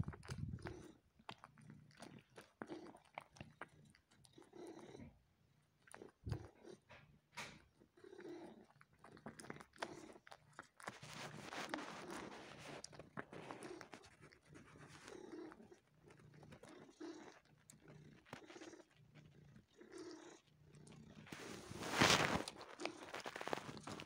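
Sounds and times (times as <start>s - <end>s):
cat purring: 0.0s - 24.0s
cat sucking and smacking: 0.0s - 24.0s.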